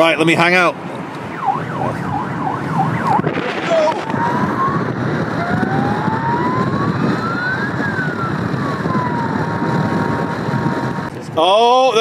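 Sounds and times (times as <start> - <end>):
wind rushing over microphone: 0.0 - 12.0
police siren wailing: 1.2 - 11.1.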